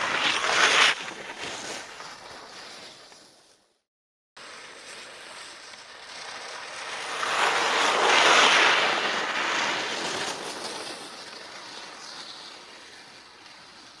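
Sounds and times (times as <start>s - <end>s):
skis hissing over snow: 0.0s - 3.7s, 4.4s - 14.0s.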